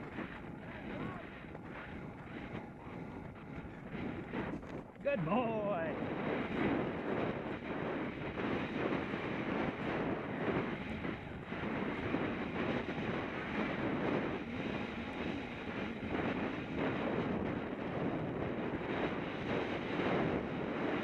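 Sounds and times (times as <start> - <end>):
horse hoofbeats galloping: 0.0 - 21.0
wind buffeting microphone: 0.0 - 21.0.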